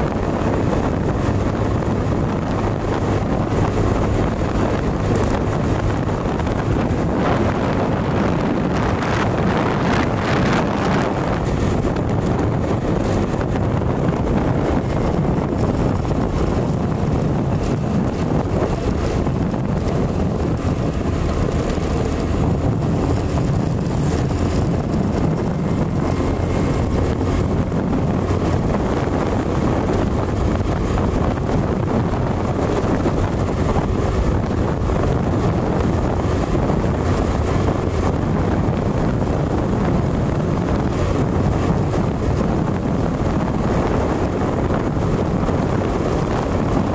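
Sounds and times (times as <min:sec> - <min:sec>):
motorcycle engine cruising: 0:00.0 - 0:46.9
wind rushing over microphone: 0:00.0 - 0:46.9.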